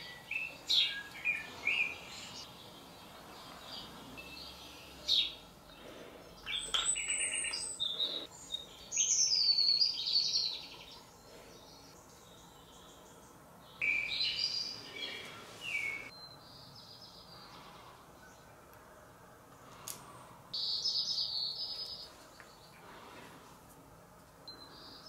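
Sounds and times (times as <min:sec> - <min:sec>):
songbird chirping: 0:00.0 - 0:23.3.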